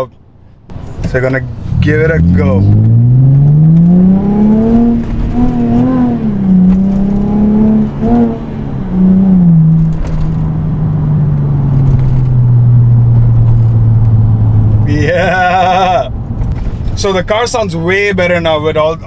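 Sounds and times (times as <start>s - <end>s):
car engine revving through exhaust: 0.7s - 17.0s.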